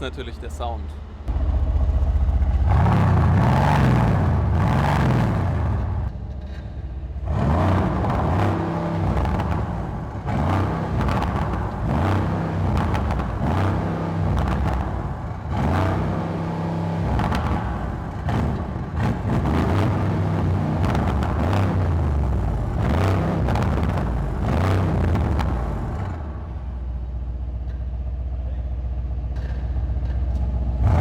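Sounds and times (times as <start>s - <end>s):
car engine revving: 0.0s - 27.8s, 29.3s - 31.0s.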